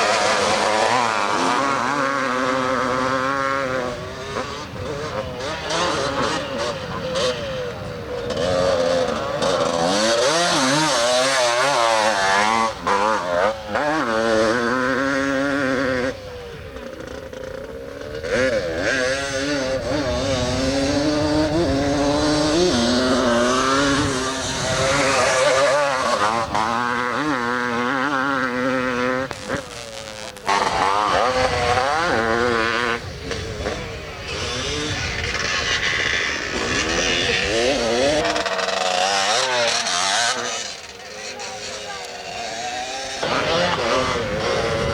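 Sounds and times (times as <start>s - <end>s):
motocross motorcycles revving: 0.0s - 44.9s.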